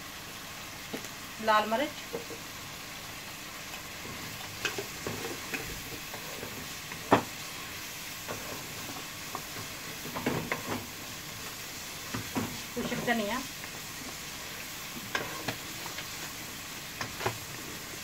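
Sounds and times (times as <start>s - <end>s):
minced meat sizzling in pan: 0.0s - 18.0s.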